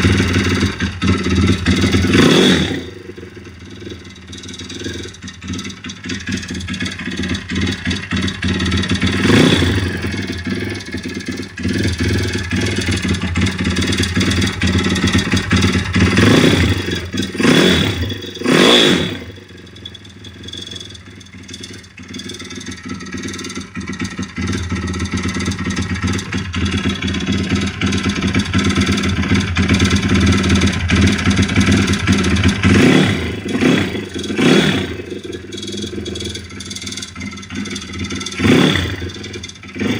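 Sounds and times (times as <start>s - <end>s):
single-cylinder engine revving: 0.0s - 39.9s.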